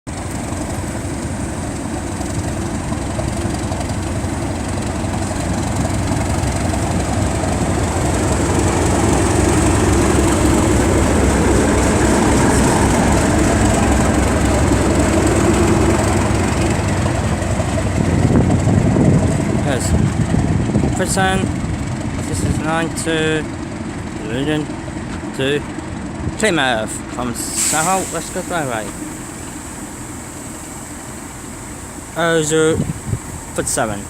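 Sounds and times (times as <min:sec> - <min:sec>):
diesel locomotive engine under load: 0:00.1 - 0:34.0.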